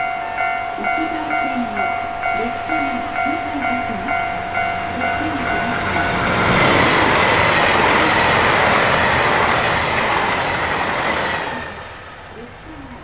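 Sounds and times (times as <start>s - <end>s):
diesel train passing at speed: 0.0s - 13.0s.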